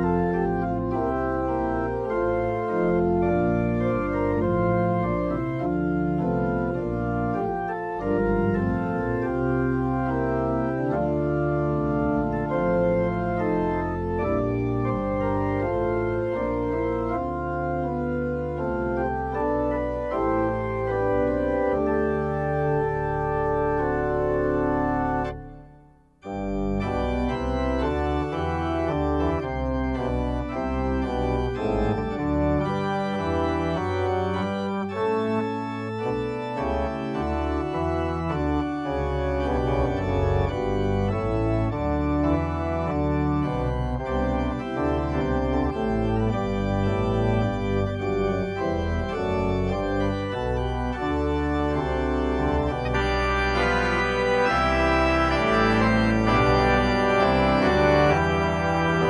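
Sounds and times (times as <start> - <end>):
church organ playing chords: 0.0 - 59.0.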